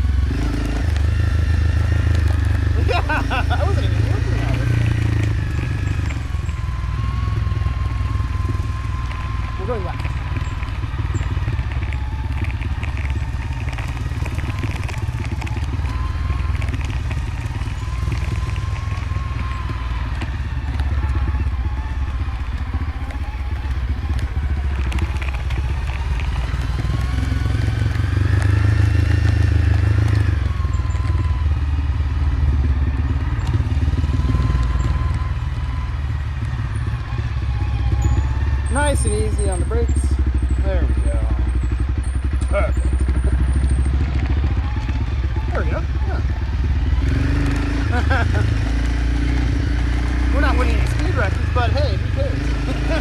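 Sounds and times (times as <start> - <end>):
motorcycle engine running: 0.0 - 53.0
rattling from rough road: 0.0 - 53.0
wind: 0.0 - 53.0.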